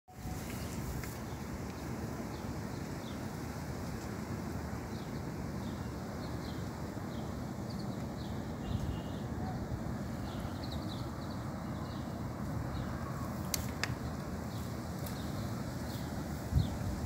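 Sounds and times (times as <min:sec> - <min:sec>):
distant city traffic: 0:00.1 - 0:17.0
wind: 0:00.1 - 0:17.0.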